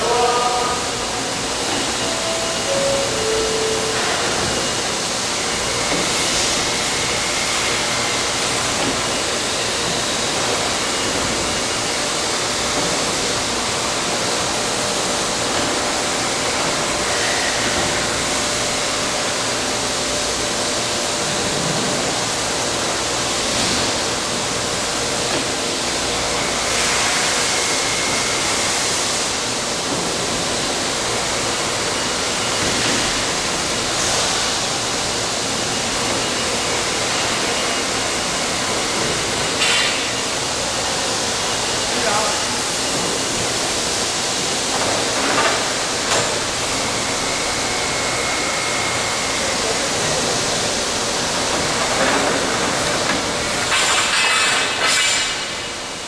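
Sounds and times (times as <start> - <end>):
tube bending machine running: 0.0 - 56.0.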